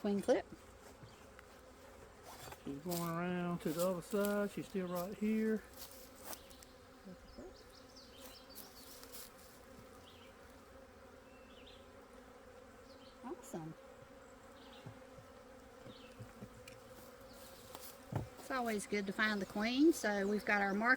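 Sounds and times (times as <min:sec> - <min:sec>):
honey bees humming: 0:00.0 - 0:20.9.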